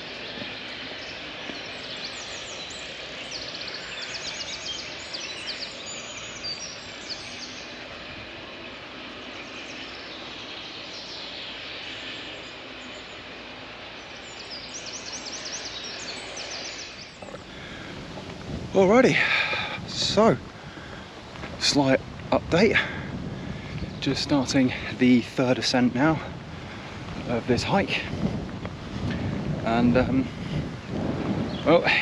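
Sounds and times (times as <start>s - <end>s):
songbirds trilling: 0.0s - 32.0s
steady background noise: 0.0s - 32.0s.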